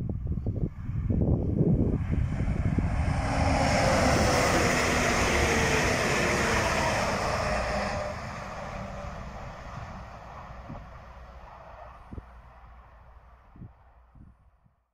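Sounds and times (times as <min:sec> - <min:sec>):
train passing at speed: 0:00.0 - 0:14.6.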